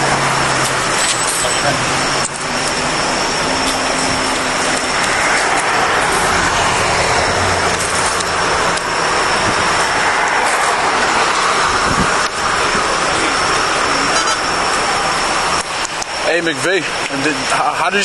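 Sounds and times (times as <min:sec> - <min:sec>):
roar of passing traffic: 0:00.0 - 0:16.7.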